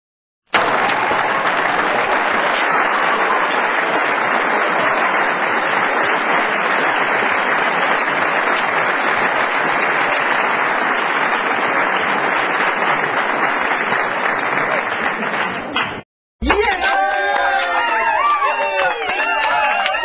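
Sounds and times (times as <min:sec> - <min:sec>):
crowd applauding: 0:00.5 - 0:20.0.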